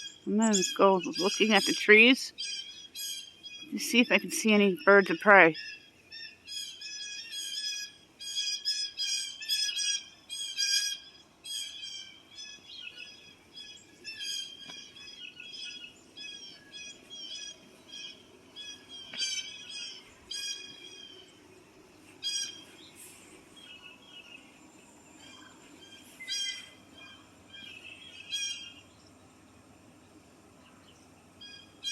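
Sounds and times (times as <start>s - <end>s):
blue jays harsh alarm calls: 0.0s - 21.3s, 22.2s - 22.9s, 25.2s - 28.9s.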